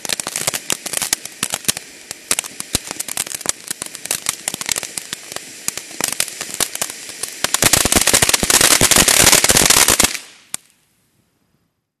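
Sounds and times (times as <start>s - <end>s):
firework fountain crackling: 0.0s - 11.0s.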